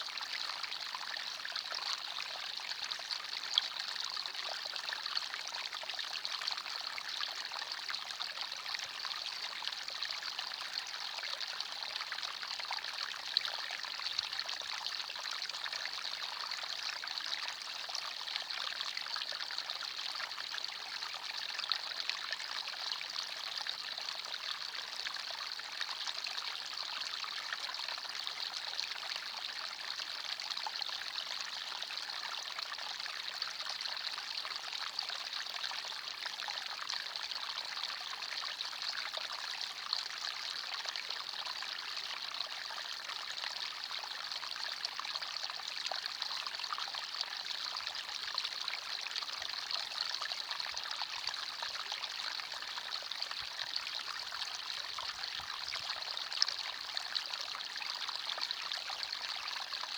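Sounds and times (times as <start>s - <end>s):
stream water trickling over stones: 0.0s - 59.9s.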